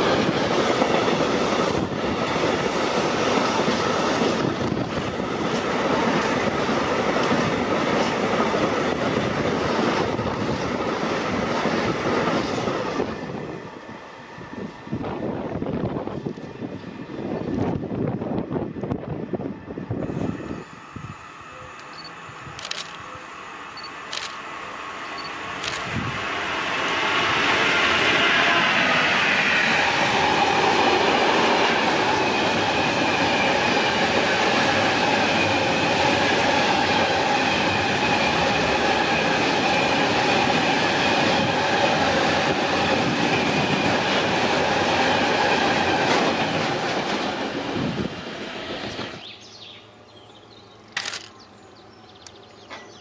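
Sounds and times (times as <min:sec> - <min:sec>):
train passing: 0:00.0 - 0:53.0
wheels on rail: 0:00.0 - 0:53.0.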